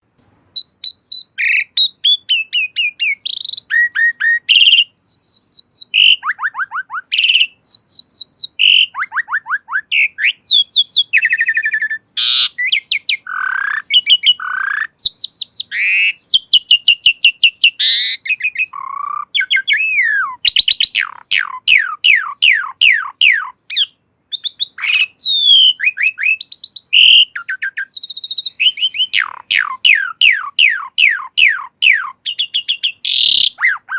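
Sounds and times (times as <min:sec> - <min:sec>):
starling singing: 0:00.6 - 0:33.9.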